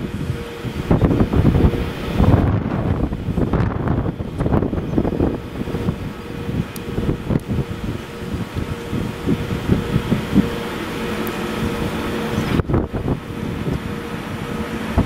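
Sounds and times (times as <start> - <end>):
faint electric hum: 0.0 - 15.0
train wheels rumbling on rail: 0.0 - 15.0
wind buffeting microphone: 0.0 - 15.0.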